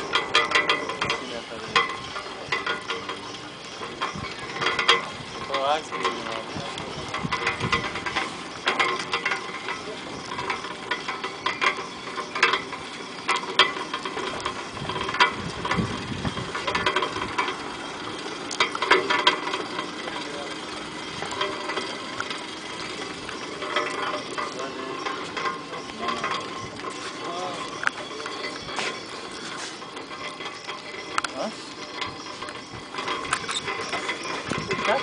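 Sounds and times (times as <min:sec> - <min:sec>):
wire rope clicking and creaking: 0:00.0 - 0:35.0.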